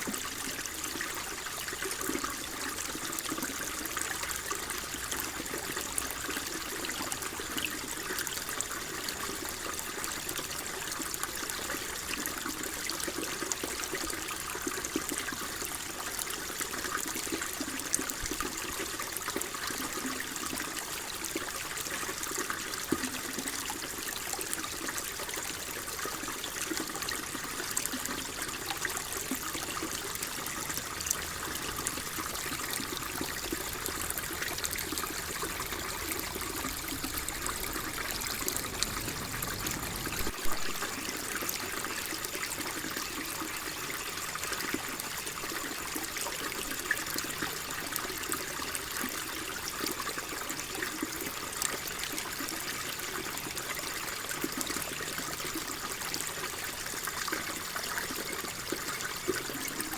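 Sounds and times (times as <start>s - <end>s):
water flowing and trickling: 0.0s - 59.9s.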